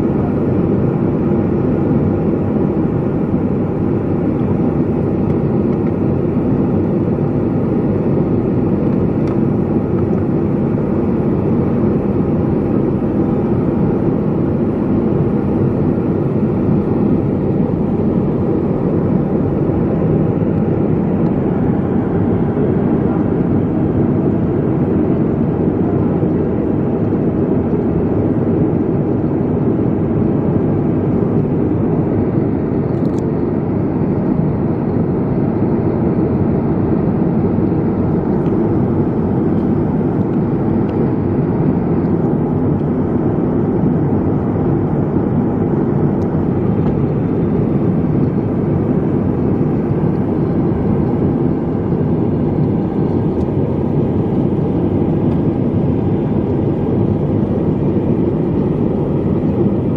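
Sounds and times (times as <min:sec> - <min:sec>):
airliner cabin noise: 0:00.0 - 0:59.9.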